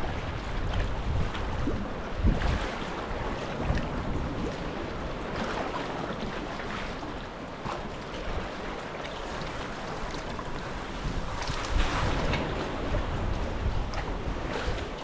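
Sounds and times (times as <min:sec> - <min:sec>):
water splashes: 0:00.0 - 0:15.0
wind buffeting microphone: 0:00.0 - 0:15.0.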